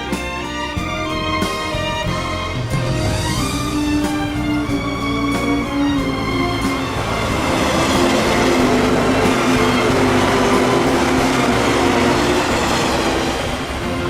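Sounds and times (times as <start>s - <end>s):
train wheels running on track: 0.0s - 14.0s.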